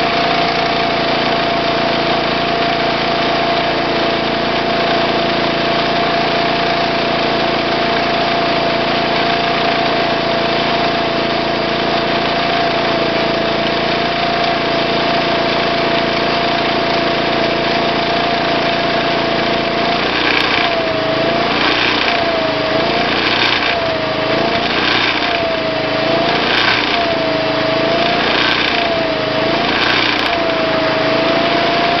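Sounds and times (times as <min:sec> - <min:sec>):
generator running: 0:00.0 - 0:32.0.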